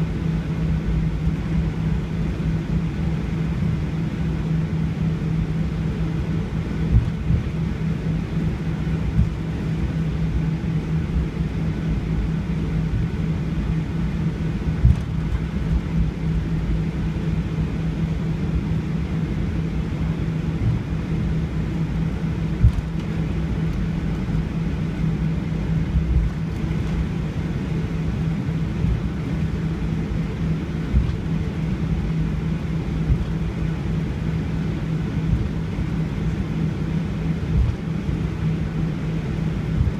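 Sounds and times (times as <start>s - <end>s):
constant hum: 0.0s - 39.9s
jet engines and airflow rumble: 0.0s - 39.9s.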